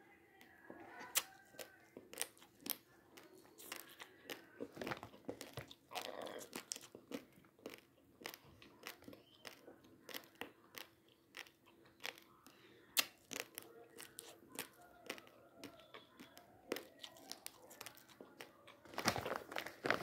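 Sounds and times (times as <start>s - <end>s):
chewing crunchy rice grains: 0.9s - 20.0s.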